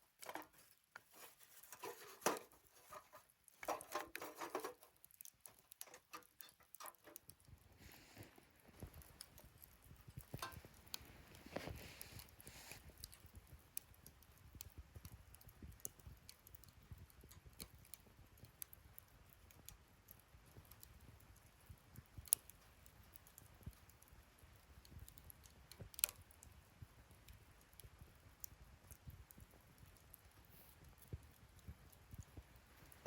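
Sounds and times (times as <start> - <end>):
wood fire crackling: 0.0 - 33.0
fire pops: 0.1 - 33.0.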